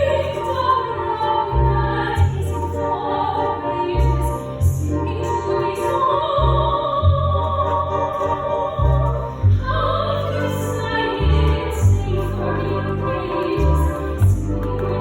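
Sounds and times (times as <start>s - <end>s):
low instrumental accompaniment: 0.0s - 15.0s.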